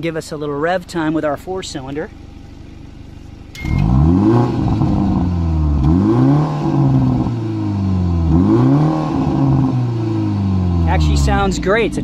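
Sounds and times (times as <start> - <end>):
car engine revving: 2.2 - 12.0.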